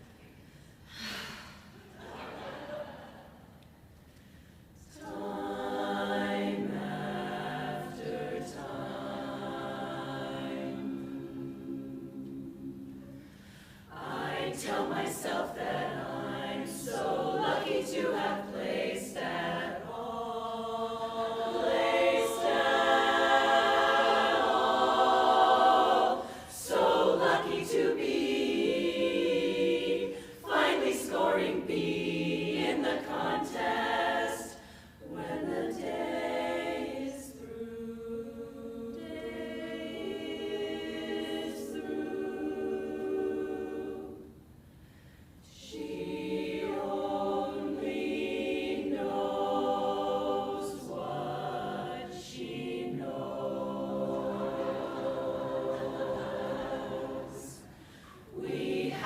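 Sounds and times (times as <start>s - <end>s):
a cappella chorus singing: 0.0s - 59.0s.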